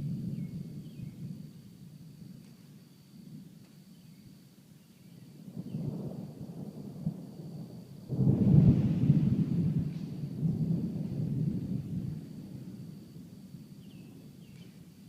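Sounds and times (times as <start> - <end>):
thunder rumbling: 0.0 - 3.6, 5.4 - 15.0.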